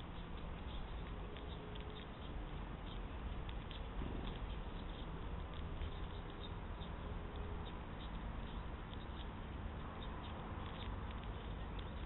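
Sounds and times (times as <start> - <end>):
low background hum: 0.0 - 12.0
sparrows chirping: 0.0 - 12.0.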